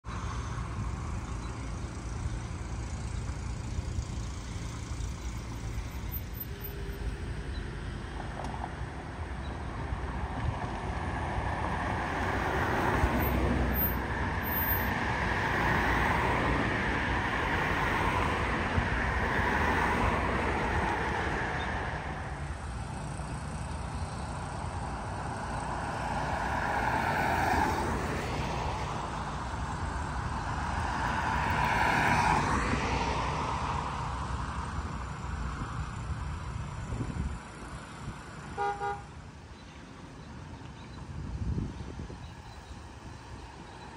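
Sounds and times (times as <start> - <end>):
cars passing: 0.0 - 43.9
steady low traffic rumble: 0.0 - 43.9.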